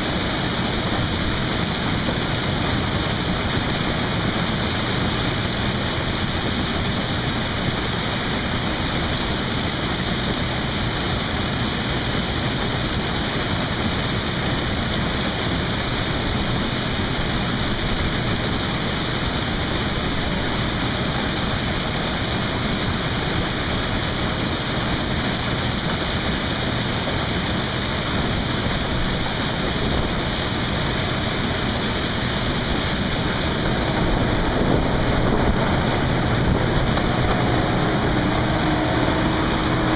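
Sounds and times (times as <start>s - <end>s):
harvest machinery running: 0.0s - 39.9s.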